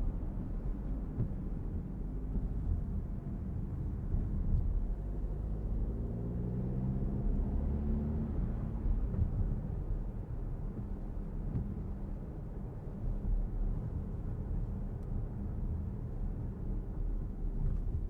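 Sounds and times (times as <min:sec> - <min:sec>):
road and drivetrain rumble: 0:00.0 - 0:18.0.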